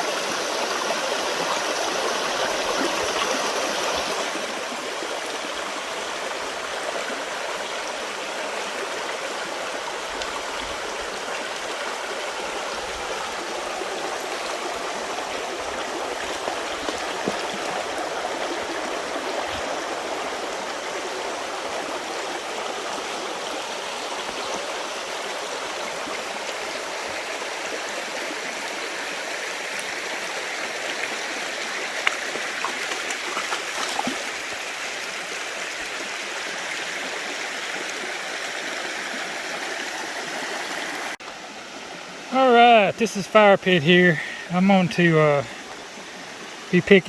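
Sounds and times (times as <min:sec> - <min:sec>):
creek water over stones: 0:00.0 - 0:47.0.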